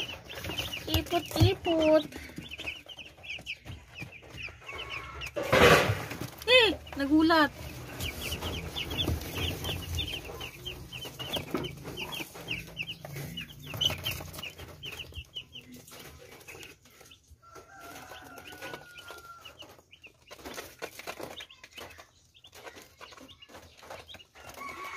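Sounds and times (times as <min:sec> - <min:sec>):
chicks peeping: 0:00.0 - 0:24.9.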